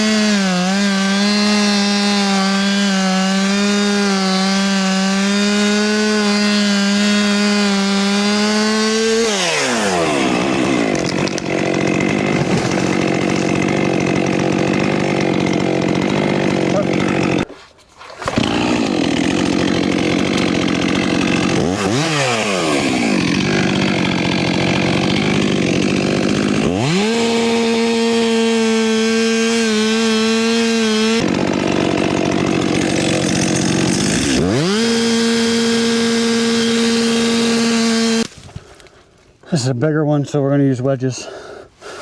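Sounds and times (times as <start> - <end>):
chainsaw cutting into tree trunk: 0.0 - 39.0.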